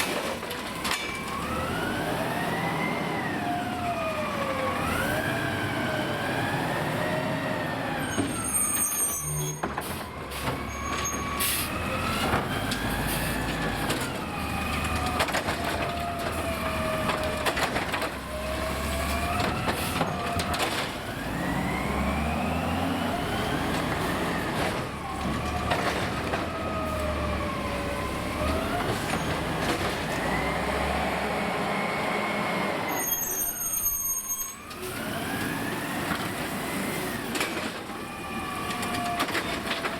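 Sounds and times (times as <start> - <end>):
diesel engine revving: 1.4 - 8.0, 10.3 - 32.9, 34.8 - 39.2.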